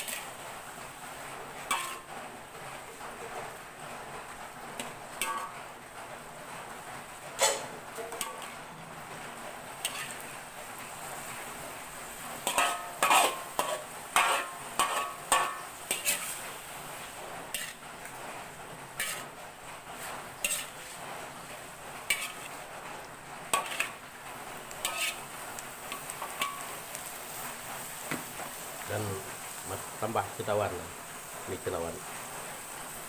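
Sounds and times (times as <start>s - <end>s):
metal spatula scraping wok: 0.0s - 5.8s, 7.1s - 22.8s, 23.5s - 32.4s.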